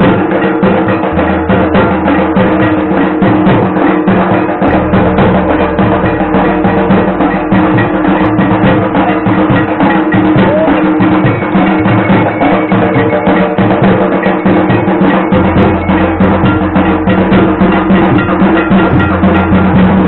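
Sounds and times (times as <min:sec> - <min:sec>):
fast drumming: 0:00.0 - 0:20.0
steady drone: 0:00.0 - 0:20.0.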